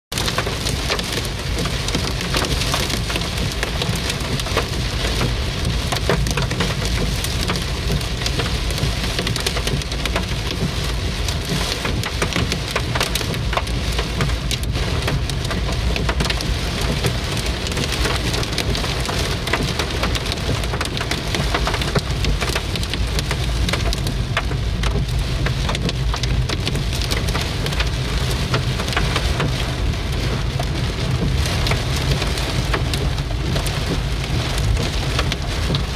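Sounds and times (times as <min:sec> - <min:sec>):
rain and hail drumming on car roof: 0:00.1 - 0:35.9.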